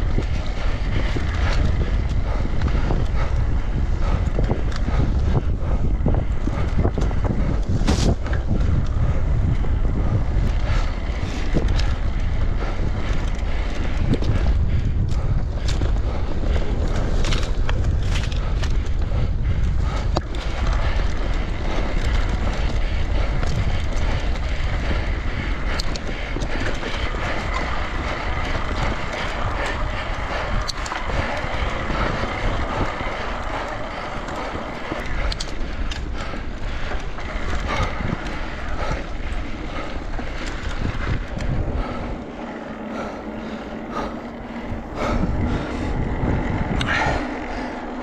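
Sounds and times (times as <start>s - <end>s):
bike clicks and rattles: 0.0s - 48.0s
tyres rolling on gravel: 0.0s - 48.0s
wind rumble on microphone: 0.0s - 48.0s.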